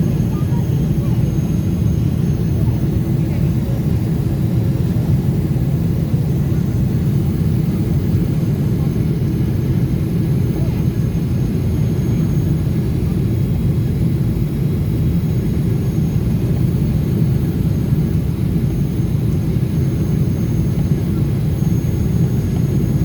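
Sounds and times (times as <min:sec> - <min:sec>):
jet engine rumble in cabin: 0:00.0 - 0:23.0.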